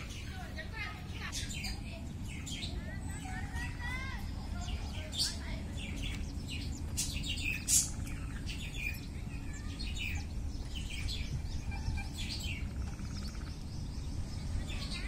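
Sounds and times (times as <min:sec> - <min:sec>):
small birds chirping: 0:00.0 - 0:15.0
buzzy bird trills: 0:01.0 - 0:15.0.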